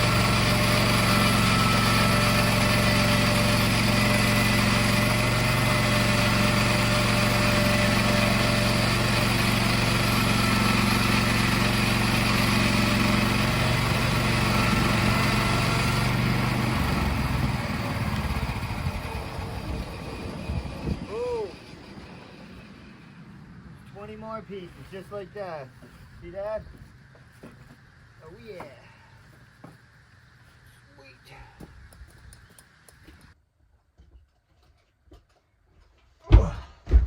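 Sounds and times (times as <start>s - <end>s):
sawmill engine running: 0.0s - 33.4s.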